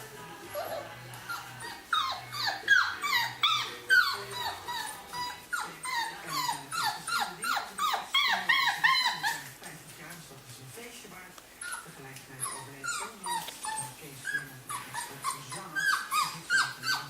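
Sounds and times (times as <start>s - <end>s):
puppies whining and yelping: 0.0s - 9.6s, 11.6s - 17.0s.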